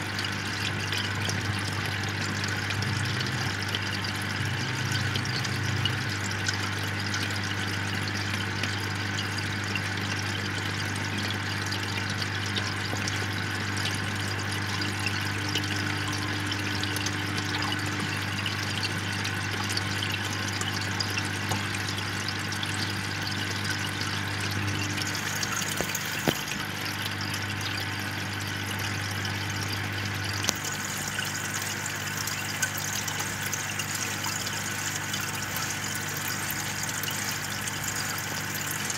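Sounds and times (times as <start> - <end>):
aquarium air stone bubbling: 0.0 - 38.9.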